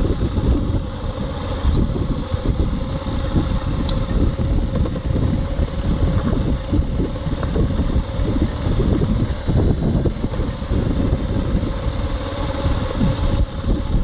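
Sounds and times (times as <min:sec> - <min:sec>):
motorcycle engine running: 0:00.0 - 0:14.0
wind rumbling on microphone: 0:00.0 - 0:14.0.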